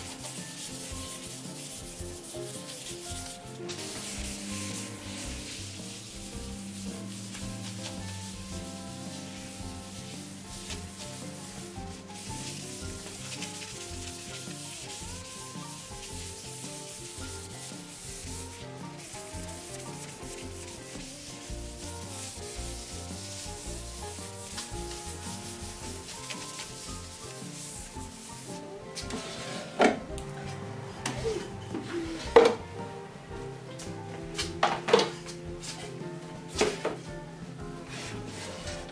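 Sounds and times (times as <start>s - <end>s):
rag wiping wood panel: 0.0s - 30.1s, 37.8s - 38.9s
background music: 0.0s - 38.9s.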